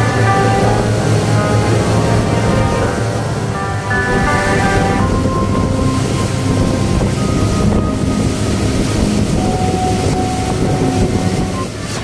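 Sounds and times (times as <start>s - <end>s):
boat engine running: 0.0s - 12.0s
water rushing: 0.0s - 12.0s
wind buffeting microphone: 0.0s - 12.0s.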